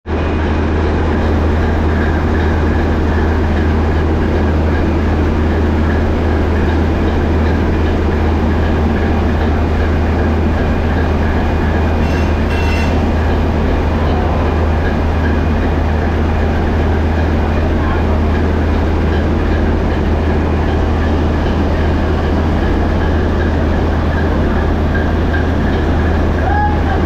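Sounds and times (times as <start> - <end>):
diesel engine droning: 0.1 - 27.0.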